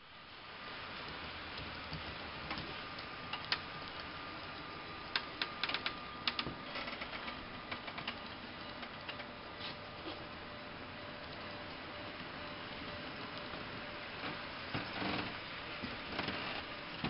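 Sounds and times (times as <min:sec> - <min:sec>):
model train running: 0:00.0 - 0:17.0
steady hiss: 0:00.0 - 0:17.0.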